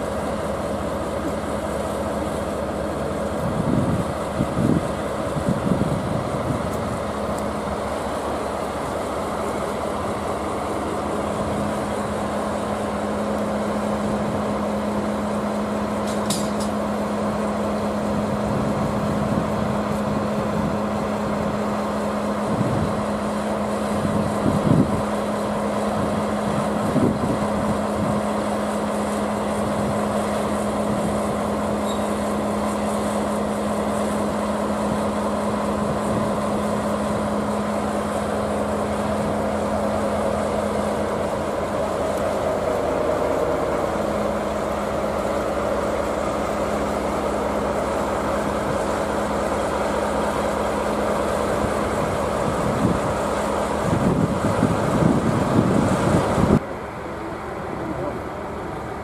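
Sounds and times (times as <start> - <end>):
locomotive engine hum: 0.0 - 59.0.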